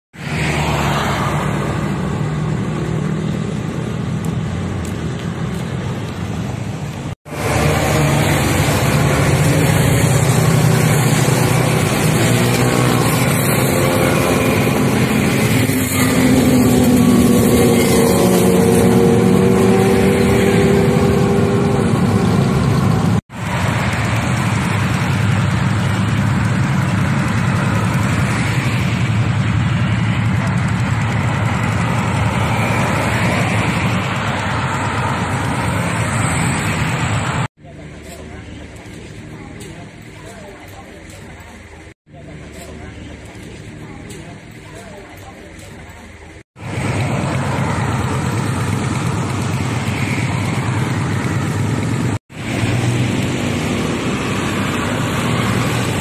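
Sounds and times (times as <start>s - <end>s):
highway traffic rushing: 0.1s - 56.0s
engines revving: 0.2s - 56.0s.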